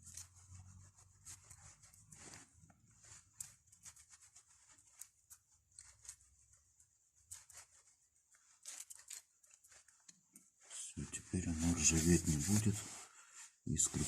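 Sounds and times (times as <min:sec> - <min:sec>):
light rubbing: 0:00.0 - 0:14.0.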